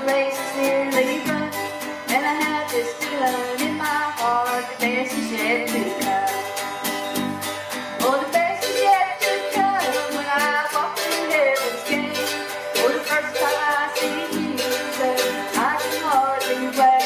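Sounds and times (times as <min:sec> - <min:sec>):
woman singing: 0:00.0 - 0:06.9, 0:07.9 - 0:17.0
mandolin: 0:00.0 - 0:17.0
strummed acoustic guitar: 0:00.0 - 0:17.0.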